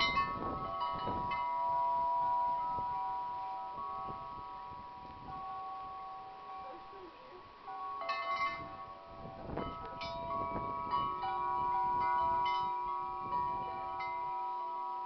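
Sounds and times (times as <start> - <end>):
wind buffeting microphone: 0.0 - 6.6, 7.5 - 15.0
wind chimes ringing: 0.0 - 15.0.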